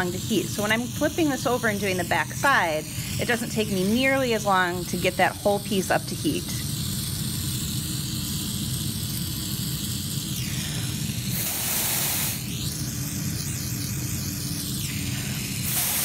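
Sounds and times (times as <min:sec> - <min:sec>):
atomizer spray hiss: 0:00.0 - 0:16.0
torch flame running: 0:00.0 - 0:16.0.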